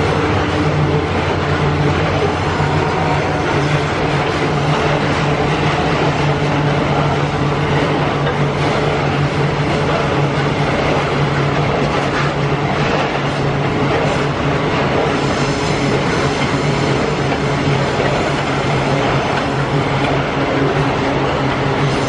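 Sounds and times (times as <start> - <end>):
freight train rumbling and rattling: 0.0 - 22.0.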